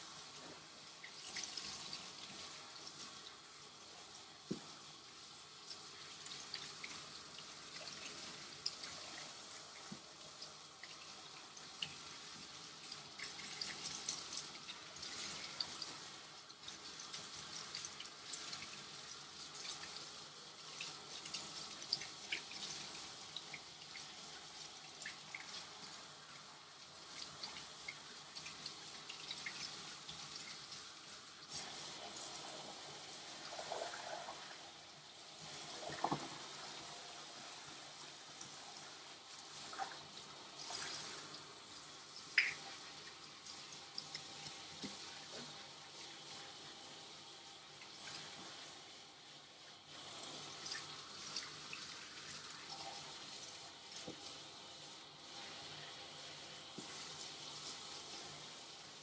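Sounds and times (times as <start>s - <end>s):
hose water spraying on dog: 0.0s - 59.0s
water splashing and dripping: 0.1s - 59.0s.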